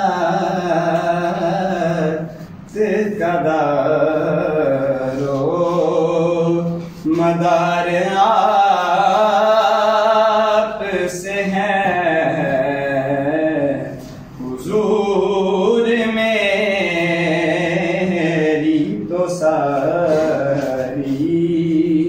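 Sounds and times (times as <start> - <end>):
man singing unaccompanied: 0.0 - 22.0.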